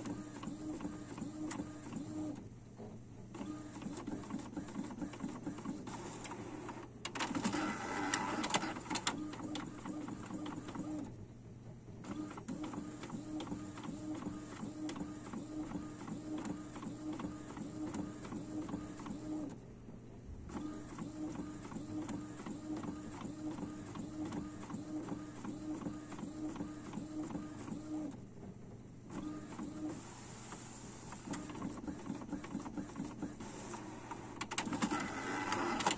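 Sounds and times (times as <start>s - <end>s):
inkjet printer printing: 0.0s - 11.3s, 12.0s - 19.6s, 20.5s - 35.9s.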